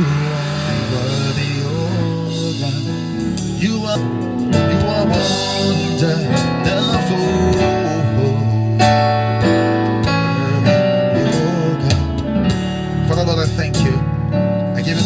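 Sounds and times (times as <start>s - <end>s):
guitar playing chords: 0.0s - 15.0s
sustained instrumental notes: 0.0s - 15.0s
worship music: 0.0s - 15.0s.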